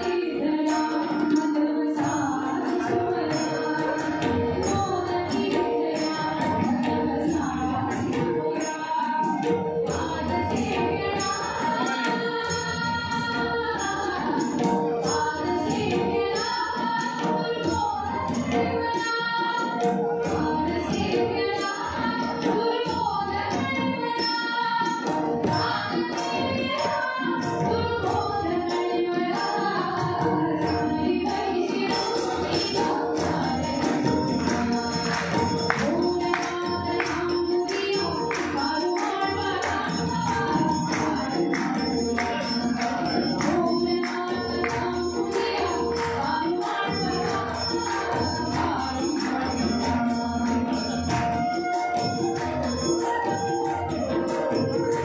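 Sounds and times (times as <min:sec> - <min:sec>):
harmonium: 0:00.0 - 0:55.0
percussion beat: 0:00.0 - 0:55.0
woman singing into a microphone: 0:00.0 - 0:55.0.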